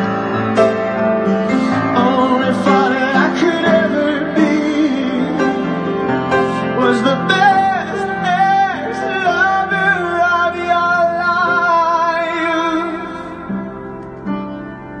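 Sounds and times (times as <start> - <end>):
grand piano chords: 0.0 - 15.0
man singing with vibrato: 1.4 - 13.8.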